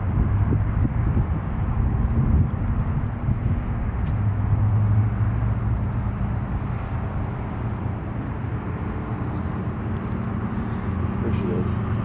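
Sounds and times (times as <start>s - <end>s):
outdoor rumble and hiss: 0.0s - 12.0s.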